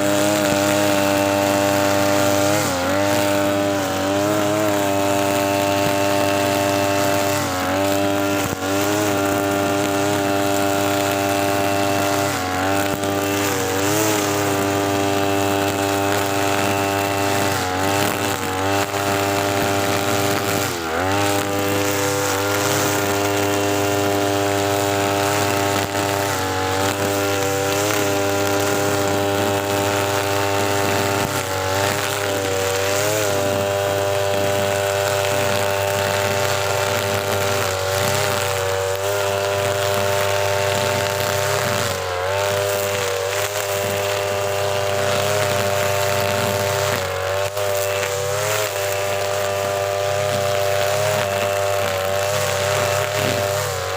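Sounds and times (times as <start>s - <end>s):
brush cutter engine at full throttle: 0.0s - 53.9s.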